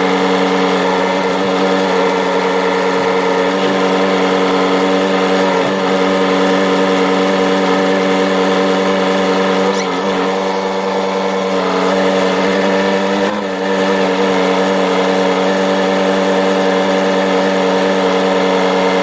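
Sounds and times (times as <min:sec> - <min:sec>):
backhoe engine droning: 0:00.0 - 0:19.0.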